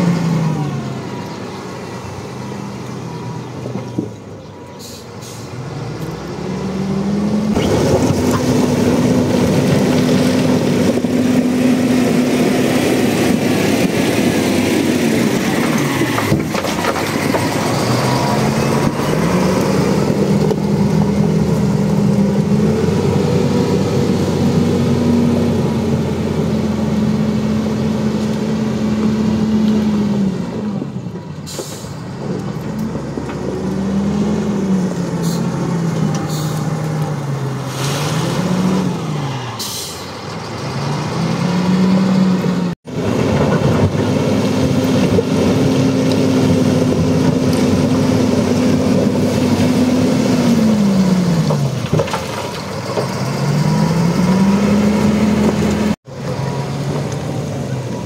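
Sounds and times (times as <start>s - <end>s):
wheel loader diesel engine revving: 0.0s - 58.0s.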